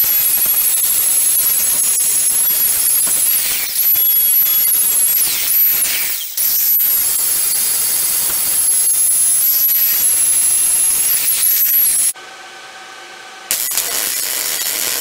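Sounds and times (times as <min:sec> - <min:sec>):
angle grinder grinding metal: 0:00.0 - 0:12.2, 0:13.5 - 0:15.0.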